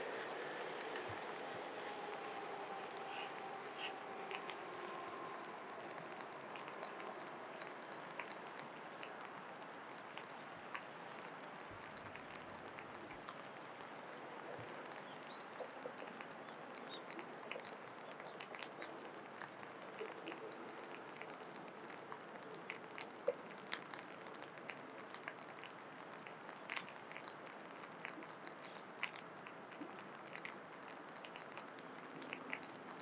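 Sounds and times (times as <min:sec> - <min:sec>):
faint outdoor hiss: 0:00.0 - 0:33.0
small scattered clicks: 0:00.2 - 0:33.0.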